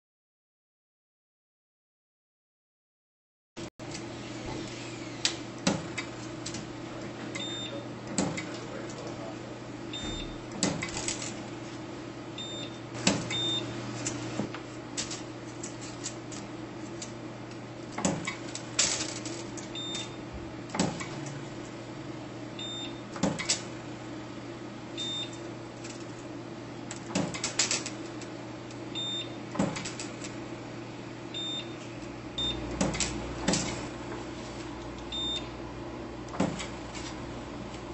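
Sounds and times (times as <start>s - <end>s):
steady low hum: 4.0s - 37.9s.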